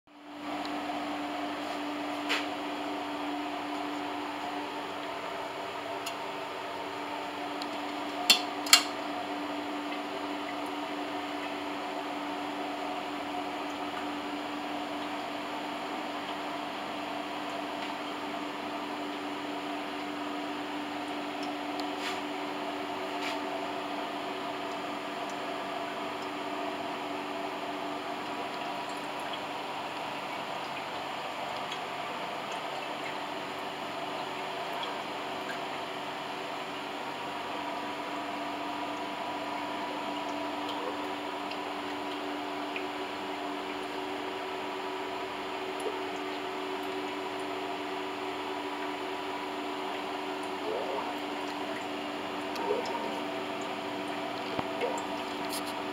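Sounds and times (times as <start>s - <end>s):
lamp base humming: 0.3s - 55.9s
liquid trickling: 0.3s - 55.9s.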